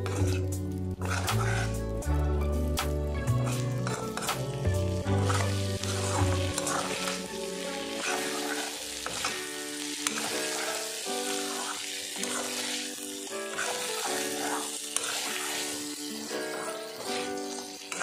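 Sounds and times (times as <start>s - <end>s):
spoon scraping metal pan: 0.0s - 2.0s, 3.4s - 7.3s, 7.9s - 18.0s
background music with melody: 0.0s - 18.0s
chicken sizzling in a pan: 0.0s - 18.0s.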